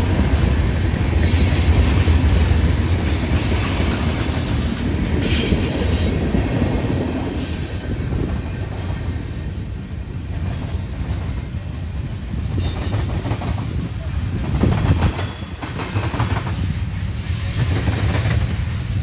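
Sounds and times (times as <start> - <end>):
train wheels squealing: 0.0 - 13.8, 15.0 - 17.9
freight cars rumbling on rails: 0.0 - 19.0.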